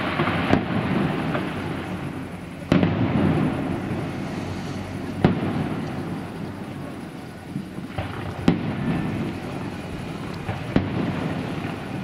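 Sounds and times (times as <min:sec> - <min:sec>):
firework bangs with echo: 0:00.0 - 0:07.0, 0:07.7 - 0:12.0
rumble of firework bursts: 0:00.0 - 0:12.0.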